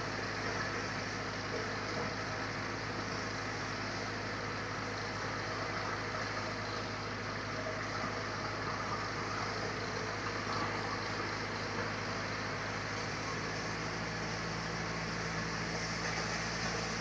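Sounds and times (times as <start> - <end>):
sawmill machinery hum: 0.0 - 17.0.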